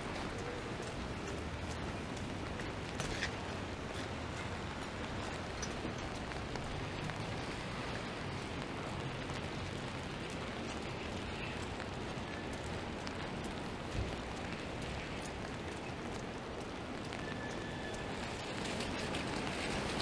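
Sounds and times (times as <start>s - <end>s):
wet traffic: 0.0s - 20.0s
rain hissing: 0.4s - 20.0s.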